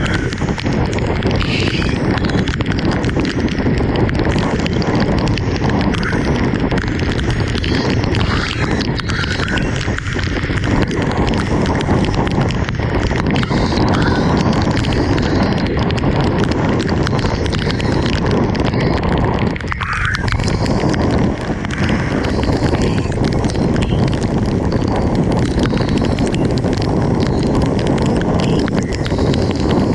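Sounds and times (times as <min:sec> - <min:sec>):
drops ticking on hard surface: 0:00.0 - 0:29.9
heavy rain falling: 0:00.0 - 0:29.9.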